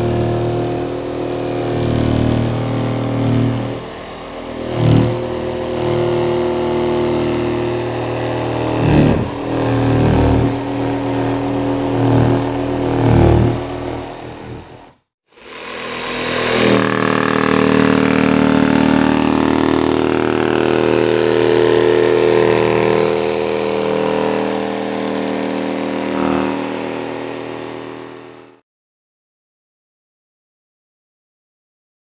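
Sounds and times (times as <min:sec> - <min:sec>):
jigsaw cutting foam board: 0:00.0 - 0:28.6.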